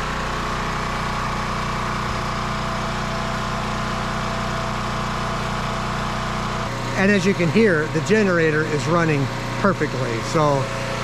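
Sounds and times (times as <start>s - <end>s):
generator running steadily: 0.0s - 11.0s.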